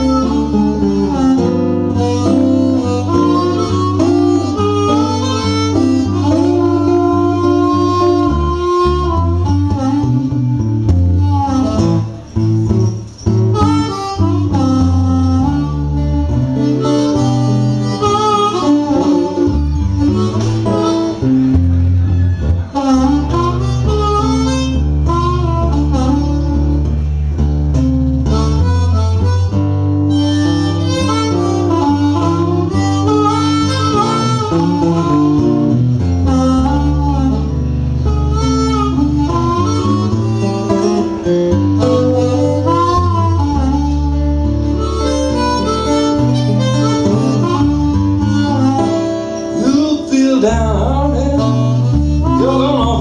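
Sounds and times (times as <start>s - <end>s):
acoustic guitar: 0.0s - 53.0s
blues harmonica: 0.0s - 53.0s.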